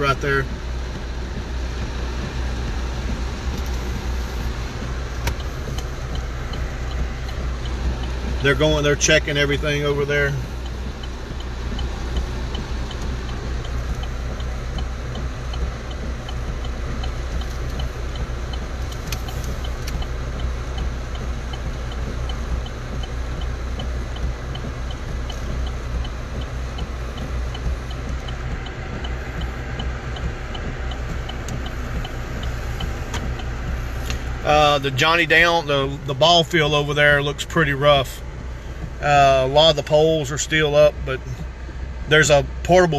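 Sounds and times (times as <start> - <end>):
car engine and road hum: 0.0 - 42.9.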